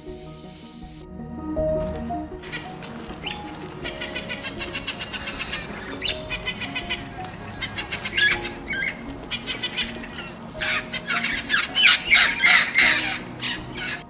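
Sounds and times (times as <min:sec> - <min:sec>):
soft background music: 0:00.0 - 0:14.0
bird squawking: 0:02.4 - 0:14.0.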